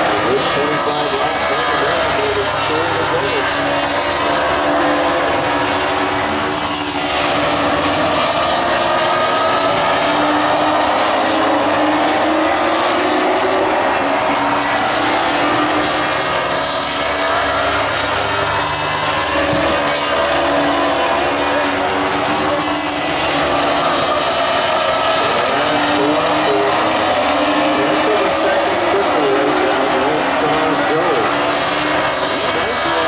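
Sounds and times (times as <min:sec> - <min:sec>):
race car engines passing: 0:00.0 - 0:33.0.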